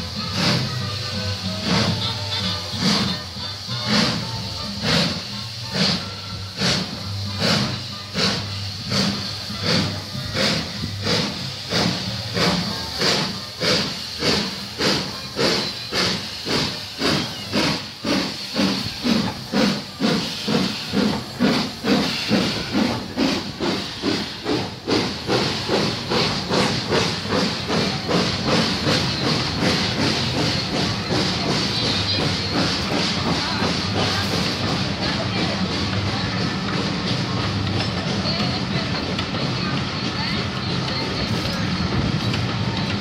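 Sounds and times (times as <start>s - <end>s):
hissing steam: 0.0s - 43.0s
steam locomotive exhaust chuffing: 0.0s - 43.0s.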